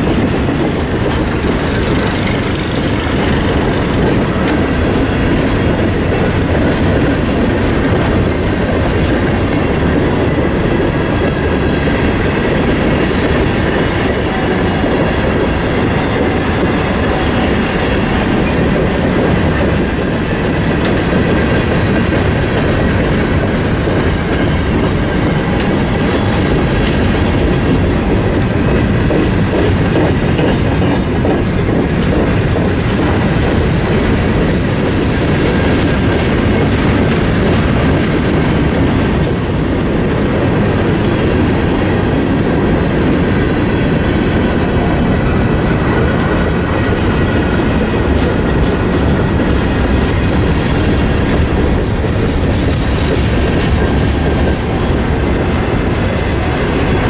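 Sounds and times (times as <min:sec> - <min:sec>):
train wheels rumbling on rails: 0:00.0 - 0:57.0
wheels clicking over rail joints: 0:00.0 - 0:57.0.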